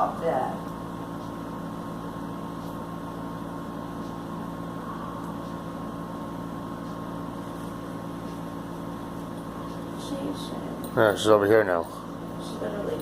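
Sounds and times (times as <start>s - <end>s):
appliance humming: 0.0s - 13.0s.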